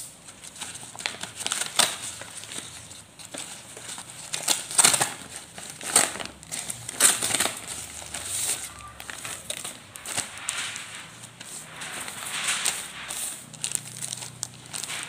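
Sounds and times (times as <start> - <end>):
paper and plastic crinkling: 0.2 - 15.0.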